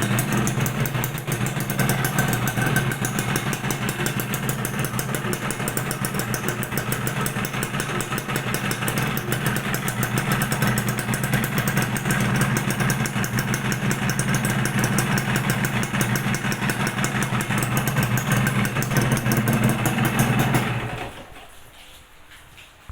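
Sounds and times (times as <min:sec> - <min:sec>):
two-stroke motorcycle engine running: 0:00.0 - 0:21.3.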